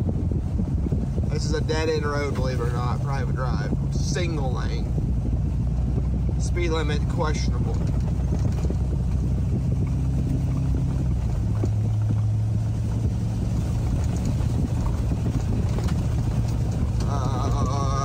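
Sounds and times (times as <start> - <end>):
truck engine and road hum: 0.0 - 18.0.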